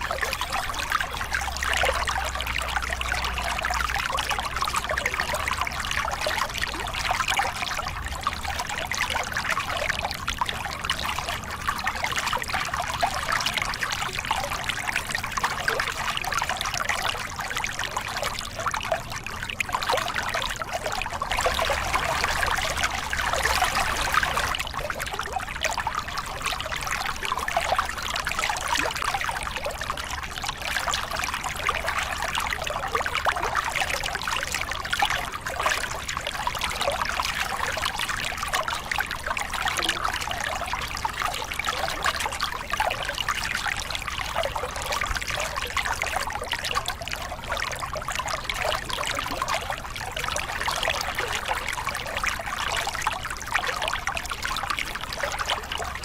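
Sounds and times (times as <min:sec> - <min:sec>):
water splashing over rocks: 0:00.0 - 0:56.0.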